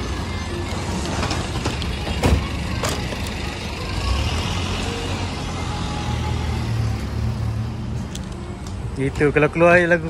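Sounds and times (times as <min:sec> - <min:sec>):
music: 0:00.0 - 0:10.0
vehicle rumbling: 0:00.0 - 0:10.0.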